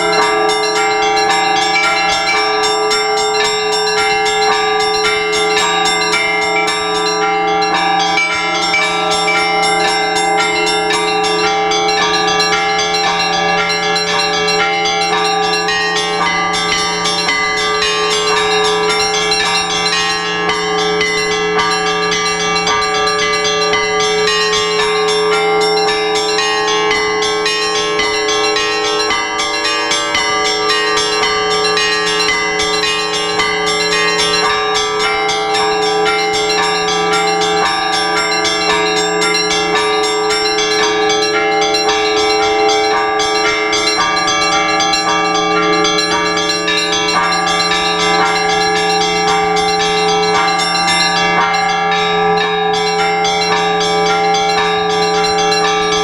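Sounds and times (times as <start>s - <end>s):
hum of large bells: 0.0s - 56.0s
small bells struck quickly: 0.0s - 56.0s.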